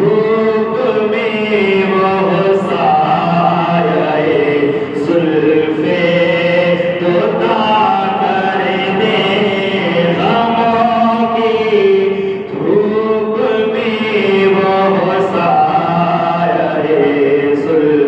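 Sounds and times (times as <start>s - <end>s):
person chanting: 0.0s - 18.0s.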